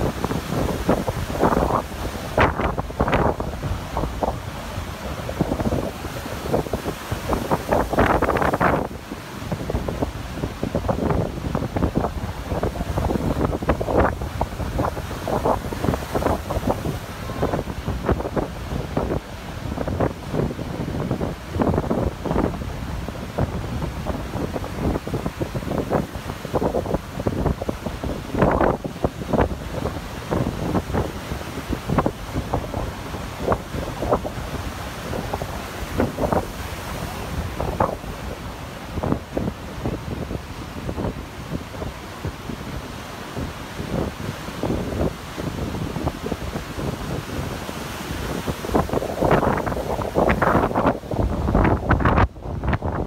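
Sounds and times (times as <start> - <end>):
heavy surf breaking: 0.0 - 53.0
wind buffeting microphone: 0.0 - 53.0.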